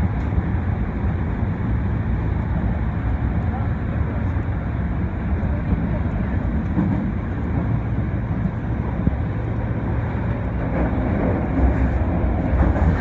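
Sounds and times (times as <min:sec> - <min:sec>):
subway train running rumble: 0:00.0 - 0:13.0.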